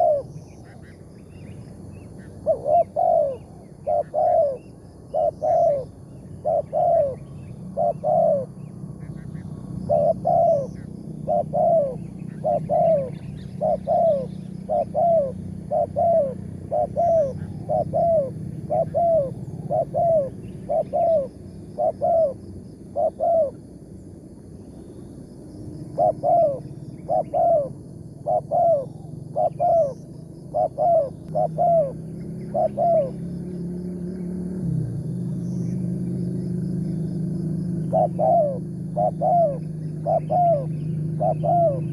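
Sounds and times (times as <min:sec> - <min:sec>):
dove cooing: 0:00.0 - 0:00.9, 0:02.2 - 0:23.7, 0:25.9 - 0:33.4, 0:37.7 - 0:41.9
steady low hum: 0:00.0 - 0:41.9.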